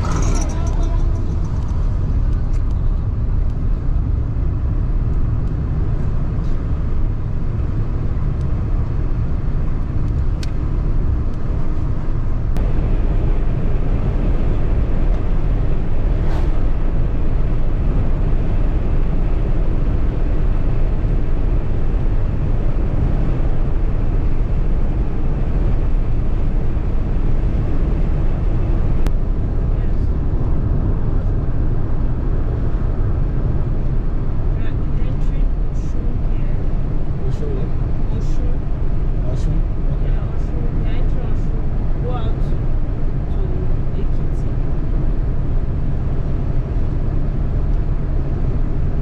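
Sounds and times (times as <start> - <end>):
car driving rumble: 0.0 - 49.0.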